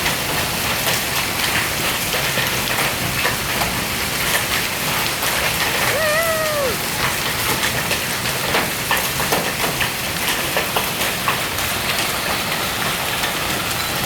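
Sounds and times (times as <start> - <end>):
dense hiss of rain and hail: 0.0 - 14.0
hailstones ticking on hard surfaces: 0.0 - 14.0.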